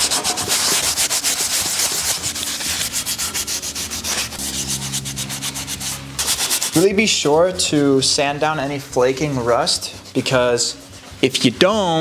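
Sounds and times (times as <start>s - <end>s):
abrasive pads scrubbing metal: 0.0s - 12.0s.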